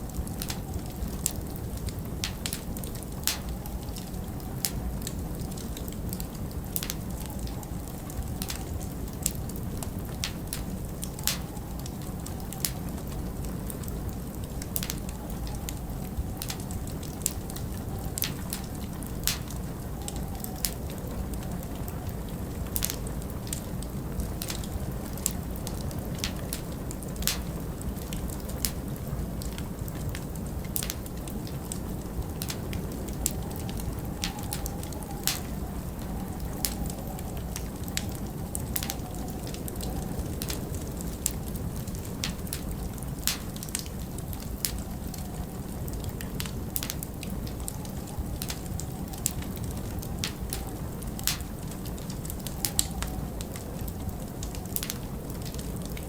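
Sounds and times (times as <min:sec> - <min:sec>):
log fire crackling: 0:00.0 - 0:56.0
low rumble of wind: 0:00.0 - 0:56.0.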